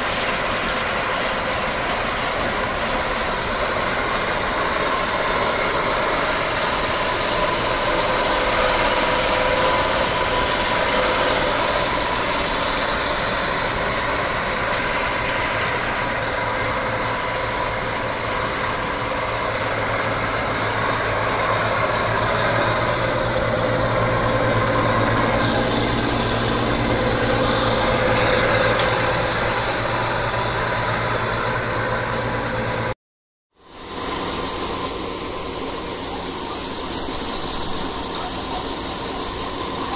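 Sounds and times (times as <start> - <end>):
grain pouring hiss: 0.0 - 31.4, 33.6 - 39.9
diesel engine drone: 0.0 - 39.9.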